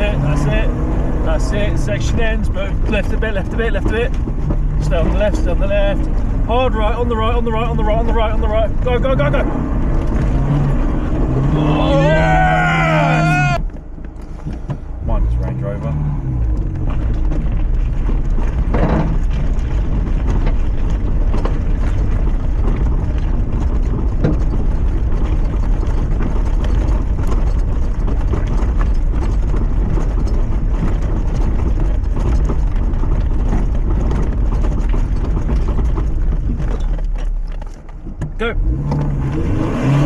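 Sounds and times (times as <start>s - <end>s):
knocks and rattles from ground: 0.0s - 11.5s, 13.5s - 39.3s
car engine running under load: 0.0s - 40.0s.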